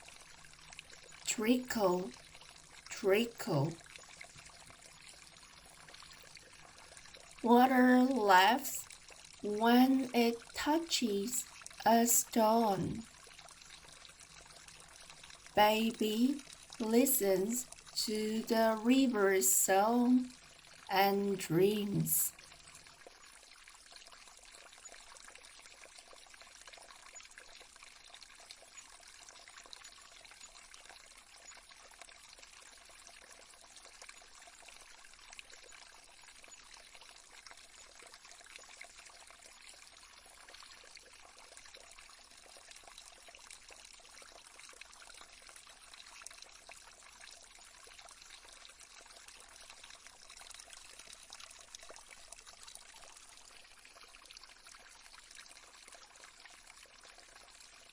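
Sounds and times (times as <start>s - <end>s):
stream trickling over stones: 0.0s - 57.9s.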